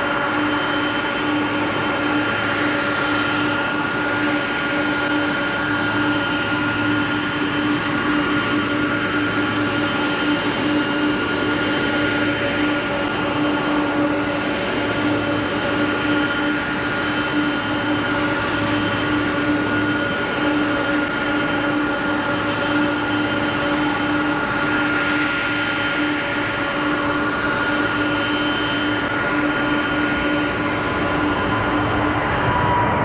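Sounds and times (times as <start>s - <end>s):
jet engine roar with whine: 0.0s - 33.0s.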